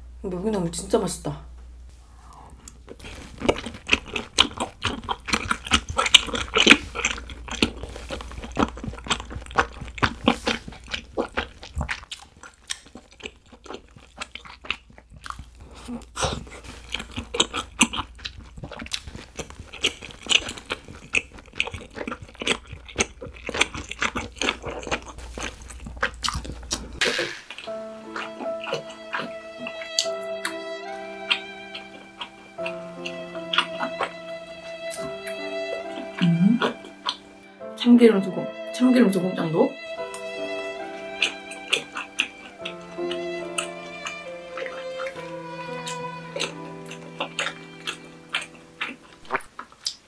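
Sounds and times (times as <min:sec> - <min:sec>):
person chewing food: 0:02.3 - 0:37.5, 0:40.0 - 0:50.0.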